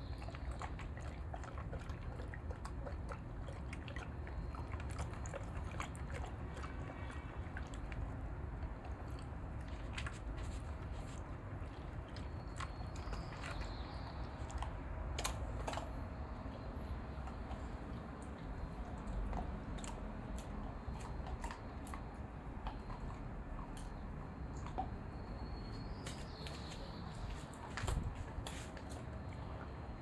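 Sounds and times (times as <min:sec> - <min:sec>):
dog crunching food: 0:00.2 - 0:25.2.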